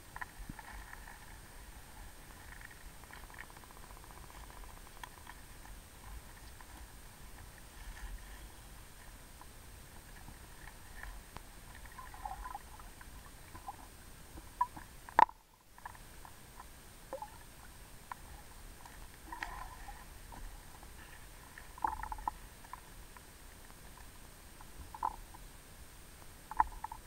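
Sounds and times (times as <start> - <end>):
small underwater clicks: 0.0 - 25.5, 26.1 - 27.0
underwater water gurgling: 0.0 - 25.6, 26.2 - 27.0.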